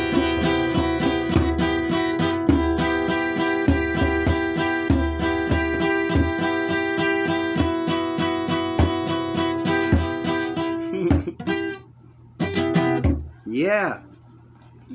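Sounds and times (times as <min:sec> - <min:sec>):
acoustic guitar strumming: 0:00.0 - 0:13.4.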